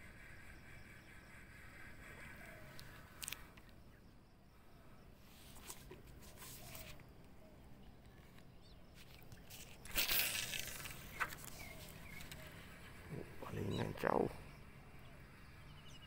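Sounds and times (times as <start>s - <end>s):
faint riverbank ambience: 0.0s - 16.0s
soft bird chirps: 0.0s - 16.0s.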